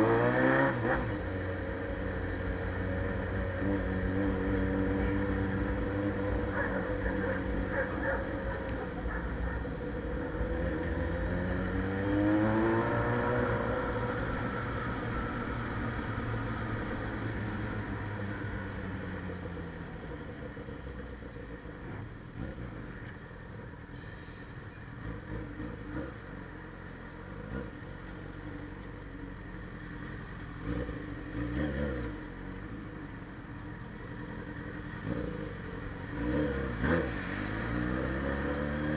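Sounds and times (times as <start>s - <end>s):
motorcycle engine revving: 0.0s - 23.9s, 24.6s - 38.9s.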